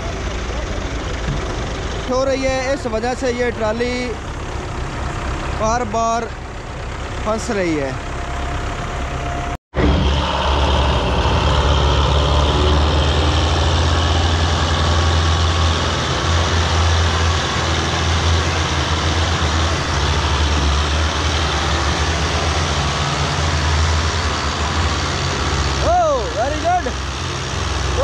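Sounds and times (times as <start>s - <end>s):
tractor engines under heavy load: 0.0s - 28.0s.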